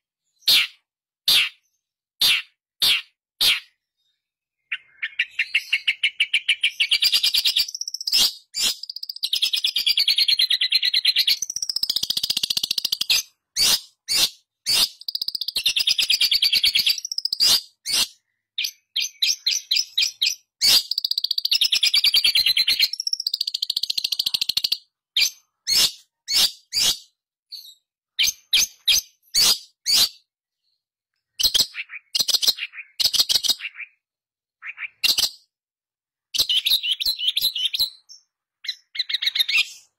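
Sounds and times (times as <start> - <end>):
bird chattering song: 0.0 - 35.6, 36.2 - 39.9.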